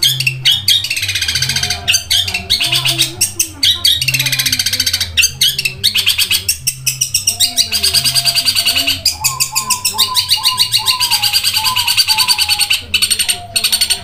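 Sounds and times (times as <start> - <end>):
bird chattering high notes: 0.0 - 14.0.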